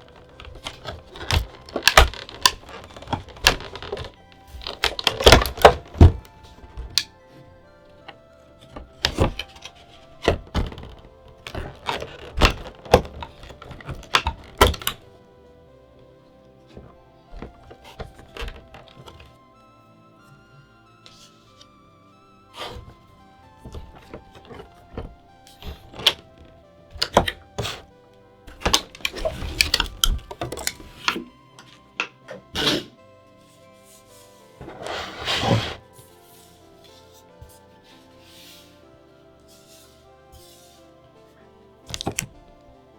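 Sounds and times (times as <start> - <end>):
packaging scuffing: 0.0 - 19.5, 20.1 - 42.9
cardboard and plastic rustling: 0.0 - 42.9
faint background music: 0.0 - 42.9
packaging taps and knocks: 0.0 - 42.9.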